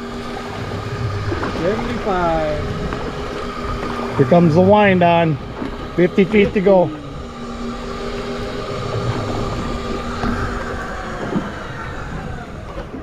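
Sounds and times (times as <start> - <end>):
electric reel motor whining: 0.0 - 13.0.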